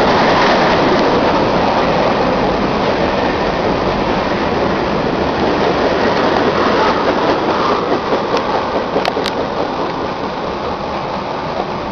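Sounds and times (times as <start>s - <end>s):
freight train wheels rumbling: 0.0s - 11.9s.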